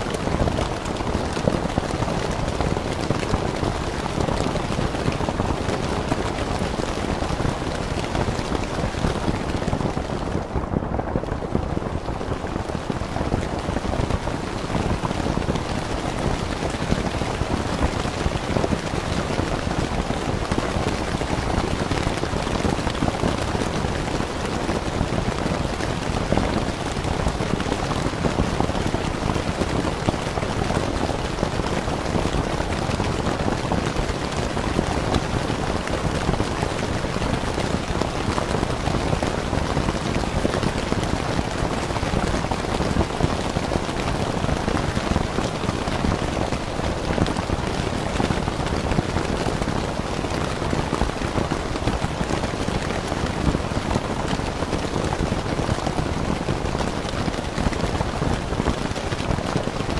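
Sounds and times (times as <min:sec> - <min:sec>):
rain on a tent: 0:00.0 - 0:59.9.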